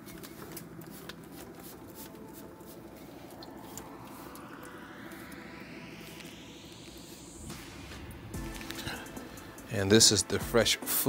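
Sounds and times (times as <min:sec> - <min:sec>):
steady low hum: 0:00.1 - 0:09.9
faint rising whine: 0:00.1 - 0:10.4.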